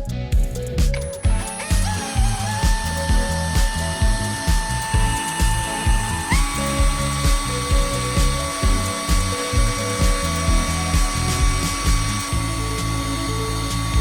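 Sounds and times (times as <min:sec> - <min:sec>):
background music with beat: 0:00.0 - 0:14.0
high motor whine: 0:00.0 - 0:14.0.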